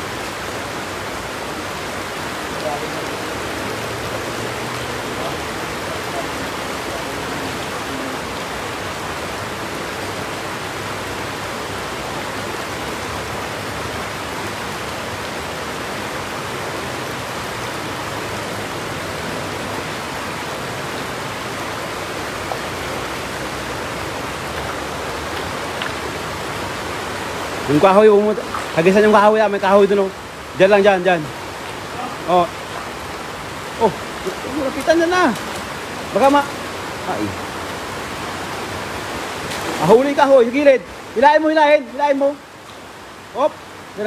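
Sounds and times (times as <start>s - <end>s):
river flowing over stones: 0.0s - 44.0s.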